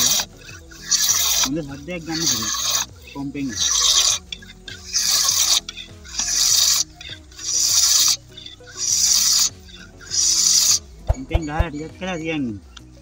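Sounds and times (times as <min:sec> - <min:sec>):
air pump hissing: 0:00.0 - 0:12.4
background music with low notes: 0:00.0 - 0:13.0.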